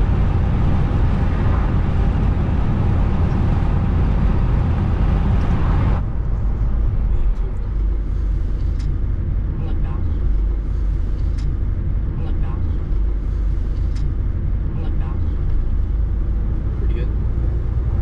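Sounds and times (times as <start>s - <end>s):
car engine rumble: 0.0s - 18.0s
road and tyre noise: 0.0s - 18.0s.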